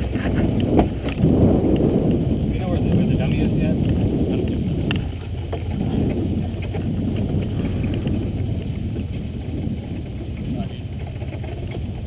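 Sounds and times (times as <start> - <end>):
faint rattles: 0.0 - 12.0
truck engine and road rumble: 0.0 - 12.0
wind buffeting microphone: 0.0 - 12.0.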